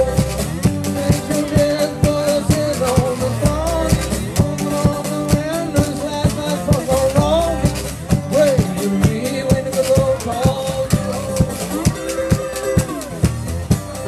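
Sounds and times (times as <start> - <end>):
man singing: 0.0 - 13.1
acoustic guitar strummed hard: 0.0 - 14.0.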